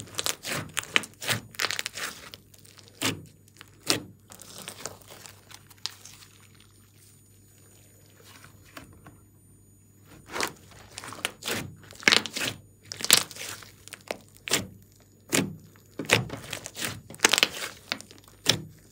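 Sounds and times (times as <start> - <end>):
slime squelching and popping: 0.0 - 8.6, 10.2 - 18.9.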